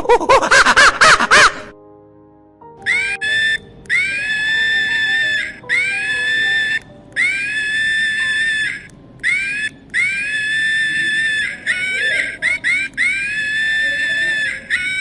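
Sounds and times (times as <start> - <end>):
monkey screaming: 2.9 - 15.0.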